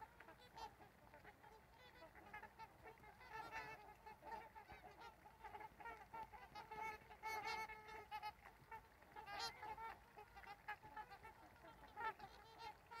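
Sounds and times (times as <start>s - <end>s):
swans honking: 0.0s - 13.0s.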